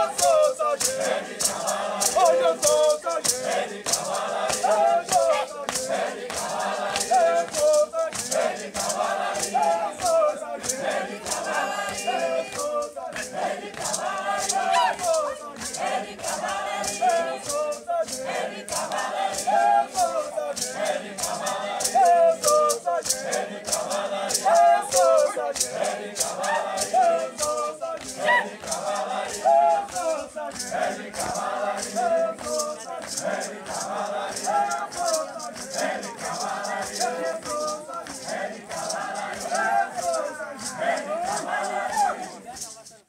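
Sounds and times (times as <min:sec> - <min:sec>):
group of voices chanting: 0:00.0 - 0:43.0
maracas shaking: 0:00.0 - 0:43.0.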